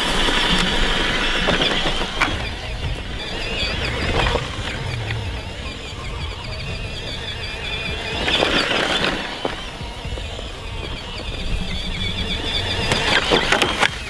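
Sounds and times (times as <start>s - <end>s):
steady high chirping: 0.0s - 14.0s
toy truck motor whirring: 0.0s - 14.0s
tyres scrabbling on rough ground: 0.0s - 14.0s.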